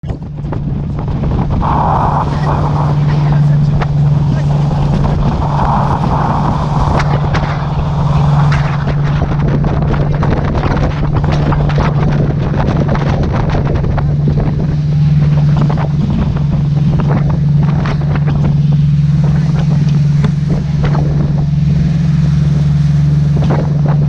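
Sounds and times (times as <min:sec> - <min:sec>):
boat engine droning: 0:00.0 - 0:24.0
wind buffeting microphone: 0:00.0 - 0:24.0.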